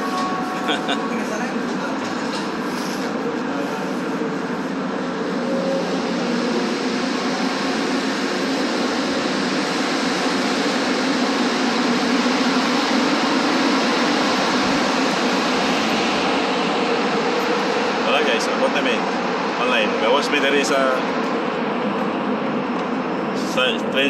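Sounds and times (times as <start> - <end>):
metro train rushing: 0.0 - 24.0.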